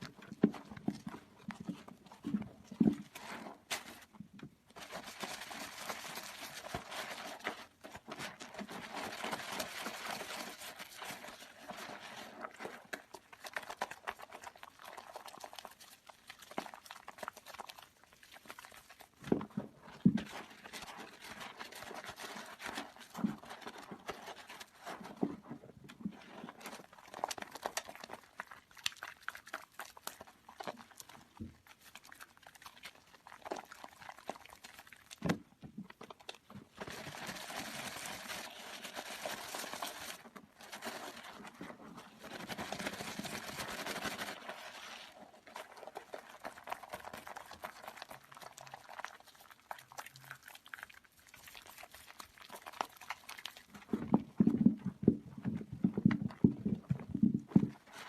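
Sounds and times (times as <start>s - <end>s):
wet soap squishing and squelching: 0.0s - 58.0s.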